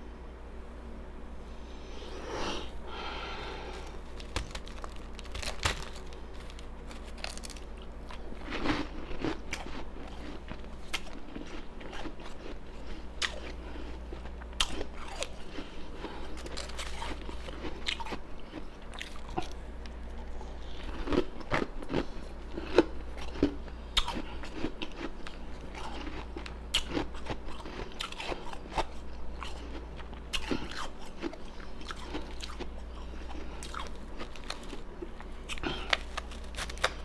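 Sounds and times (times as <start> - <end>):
ice crunching in mouth: 2.3 - 19.6, 20.6 - 37.0.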